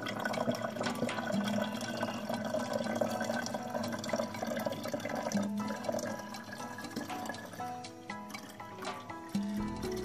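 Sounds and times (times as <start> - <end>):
water pouring into plastic tank: 0.0 - 10.0.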